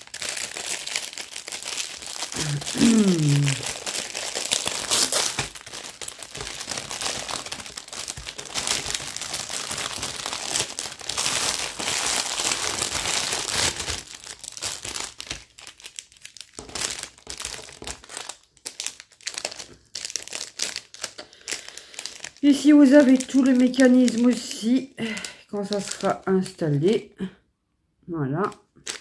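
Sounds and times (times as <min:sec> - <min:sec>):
plastic wrapping crinkling: 0:00.0 - 0:27.1, 0:28.4 - 0:29.0.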